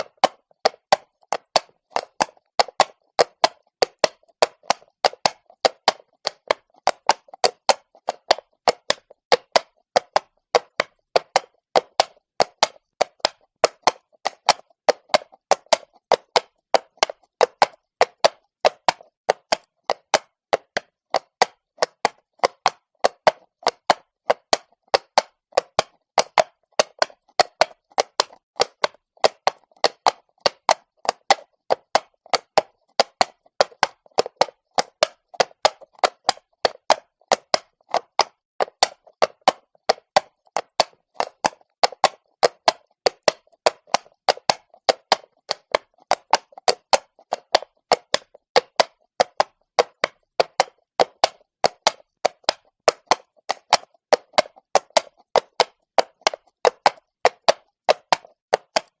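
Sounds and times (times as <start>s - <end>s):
horse hooves clopping on cobblestone: 0.0s - 59.0s.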